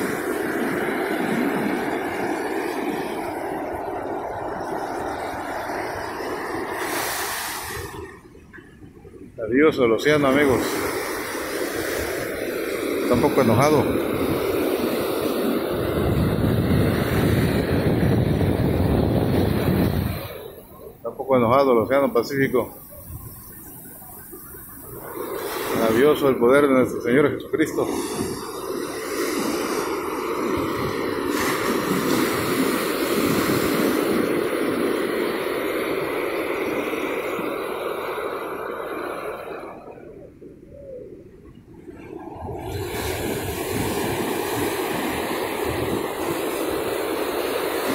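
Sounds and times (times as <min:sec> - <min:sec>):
wind buffeting microphone: 0:00.0 - 0:26.4, 0:27.0 - 0:37.7, 0:38.4 - 0:47.9
waves breaking on beach: 0:00.0 - 0:47.9.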